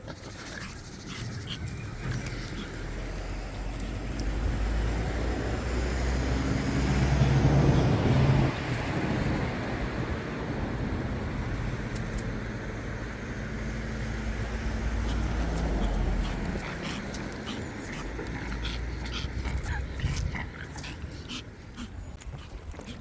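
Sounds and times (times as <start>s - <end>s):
road traffic rumble: 0.0s - 23.0s
vehicle passing close by: 0.0s - 23.0s.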